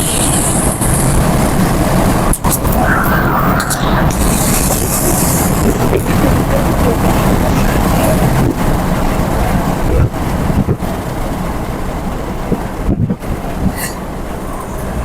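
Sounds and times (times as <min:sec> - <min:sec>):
vehicle engine off-road: 0:00.0 - 0:15.0
wind on microphone: 0:00.0 - 0:15.0.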